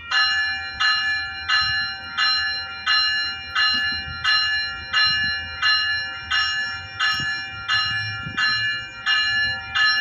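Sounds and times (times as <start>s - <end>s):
train bell ringing: 0.0s - 10.0s.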